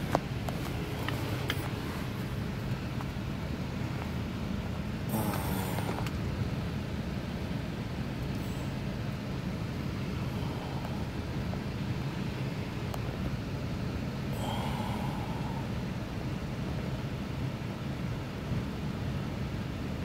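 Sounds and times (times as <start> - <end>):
vehicle rumble inside car: 0.0 - 20.0.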